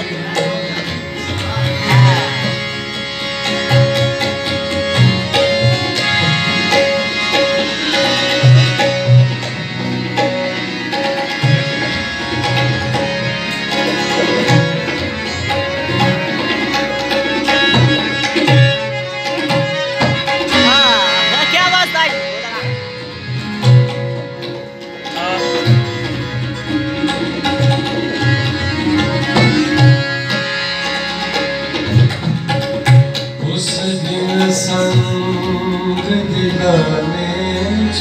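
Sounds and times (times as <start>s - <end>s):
harmonium reed tones: 0.0s - 38.0s
tabla playing: 0.0s - 38.0s.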